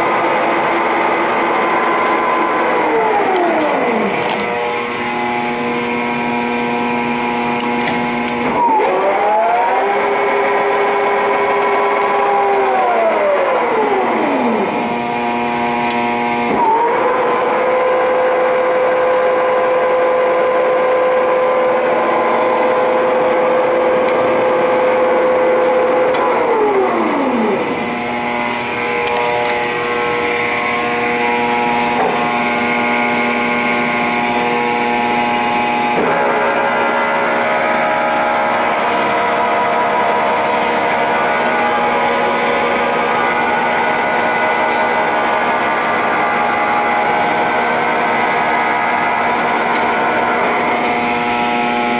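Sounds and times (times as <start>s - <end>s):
lathe spindle whine: 0.0s - 51.9s.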